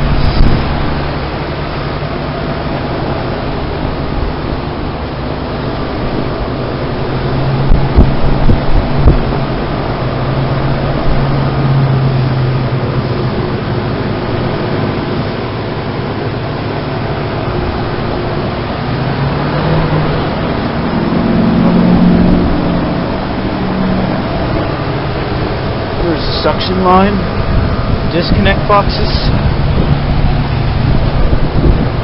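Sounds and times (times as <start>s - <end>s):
compressor hum: 0.0s - 32.0s
heat pump fan rushing: 0.0s - 32.0s.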